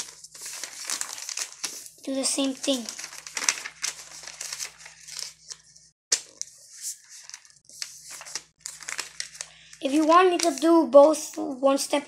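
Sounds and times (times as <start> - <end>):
paper rustling and crinkling: 0.0 - 11.6.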